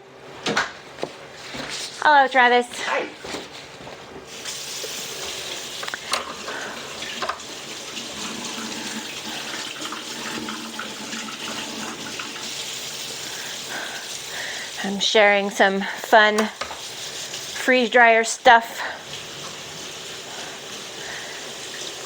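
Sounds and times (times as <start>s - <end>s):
running water rushing: 4.3s - 22.0s.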